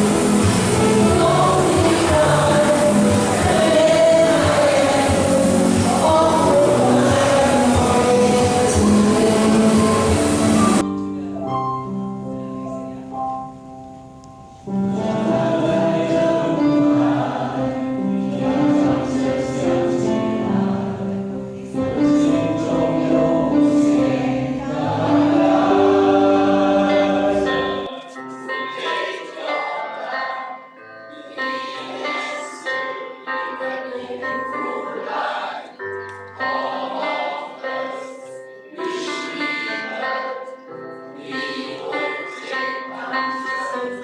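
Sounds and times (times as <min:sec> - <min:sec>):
choir singing held notes: 0:00.0 - 0:10.9, 0:14.6 - 0:44.0
musical accompaniment: 0:00.0 - 0:44.0.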